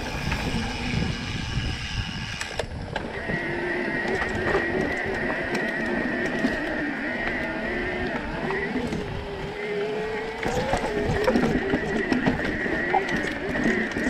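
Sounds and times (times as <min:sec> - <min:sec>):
bike tyres rumbling on dirt trail: 0:00.0 - 0:14.0
electric motor whine: 0:00.0 - 0:14.0.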